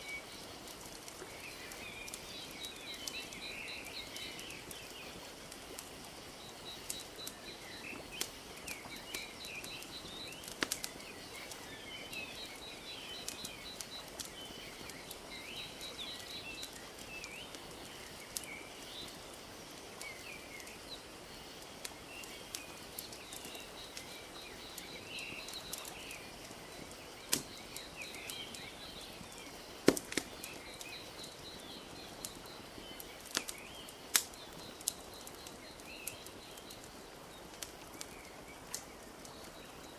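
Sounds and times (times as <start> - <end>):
birds chirping: 0.0 - 39.9
wood fire crackling and popping: 0.0 - 39.9.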